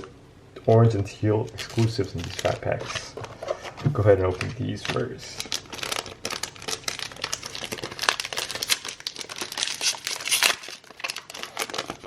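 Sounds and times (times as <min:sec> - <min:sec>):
card pack wrapper tearing and crinkling: 0:00.8 - 0:12.0.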